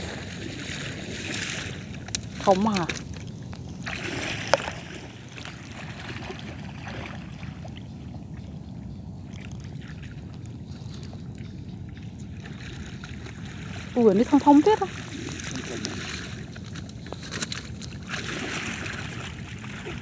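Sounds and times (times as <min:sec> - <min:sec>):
water splashing around legs: 0:00.0 - 0:07.8, 0:09.3 - 0:20.0.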